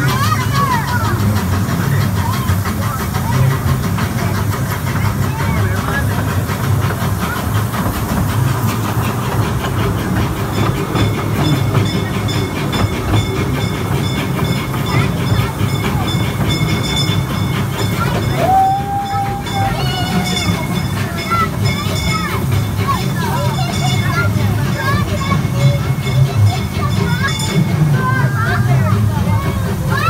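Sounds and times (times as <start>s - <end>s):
ride train rumbling and clattering: 0.0s - 30.0s.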